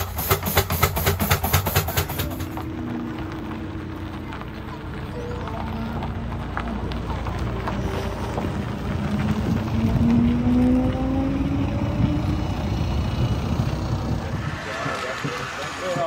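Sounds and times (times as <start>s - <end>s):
bus engine passing: 0.0s - 16.0s.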